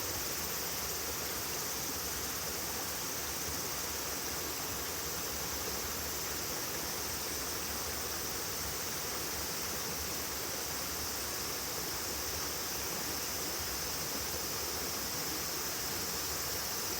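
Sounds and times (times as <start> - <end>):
insect chorus: 0.0 - 16.9.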